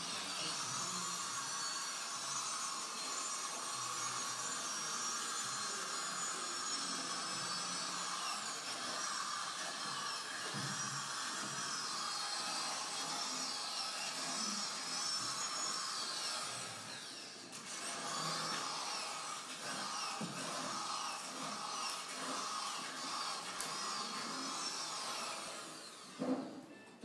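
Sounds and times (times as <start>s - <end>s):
grinding drill-like noise: 0.0s - 26.6s.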